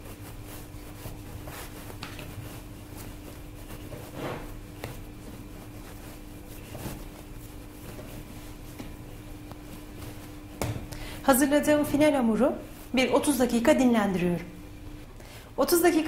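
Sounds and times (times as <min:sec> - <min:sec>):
dough kneaded by hand: 0:00.0 - 0:16.0
faint steady hum: 0:00.0 - 0:16.0.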